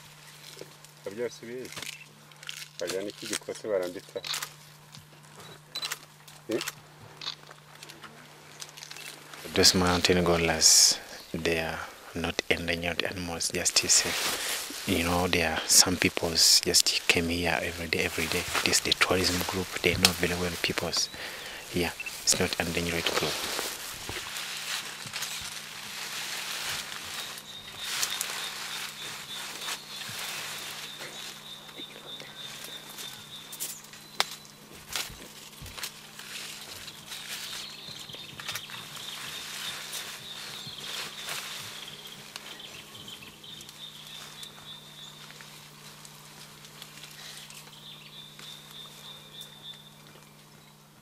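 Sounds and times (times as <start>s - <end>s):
leaves and stems rustling: 0.0s - 51.0s.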